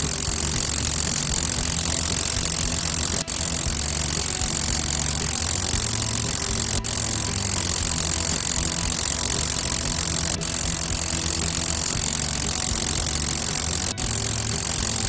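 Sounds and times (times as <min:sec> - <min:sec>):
car engine idling: 0:00.0 - 0:15.0
high-pitched compressor hiss: 0:00.0 - 0:15.0.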